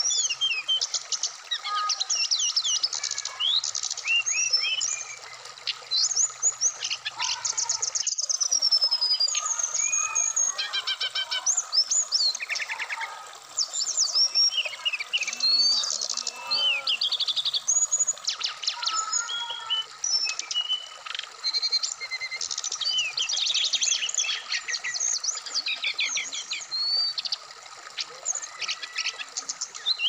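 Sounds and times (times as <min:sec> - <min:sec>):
bird singing whistled phrases: 0:01.6 - 0:27.2, 0:28.0 - 0:30.0.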